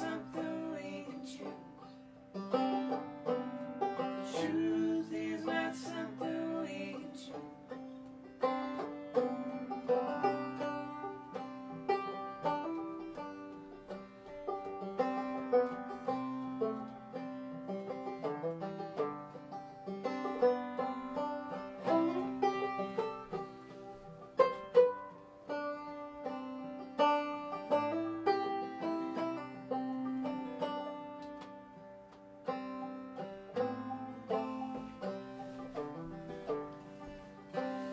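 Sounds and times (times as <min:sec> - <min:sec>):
acoustic guitar: 0:00.0 - 0:37.9
banjo: 0:00.0 - 0:37.9.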